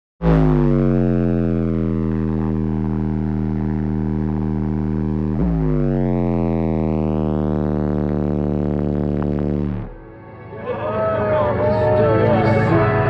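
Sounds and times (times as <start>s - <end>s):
low synthesizer drone: 0.2s - 13.0s.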